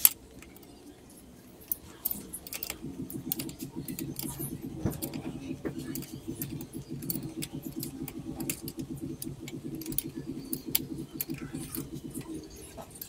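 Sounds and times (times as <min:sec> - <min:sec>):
steady low background noise: 0:00.0 - 0:13.0.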